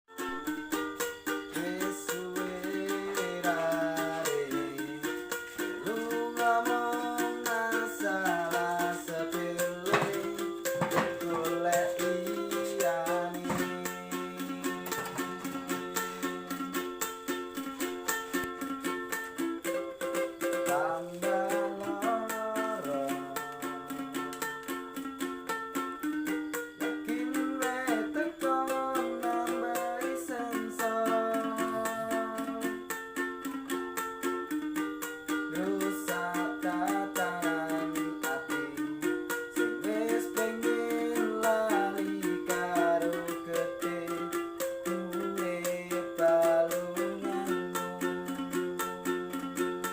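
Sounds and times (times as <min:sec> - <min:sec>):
fast strumming string instrument: 0:00.1 - 0:49.9
person singing: 0:00.1 - 0:49.9.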